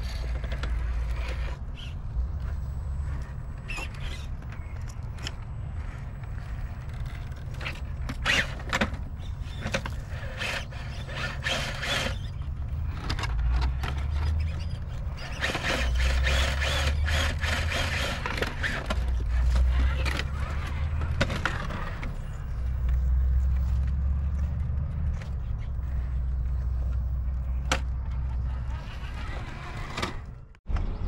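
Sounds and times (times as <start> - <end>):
small electric drivetrains whining: 0.0 - 30.6
tires scraping on rock: 0.0 - 31.0.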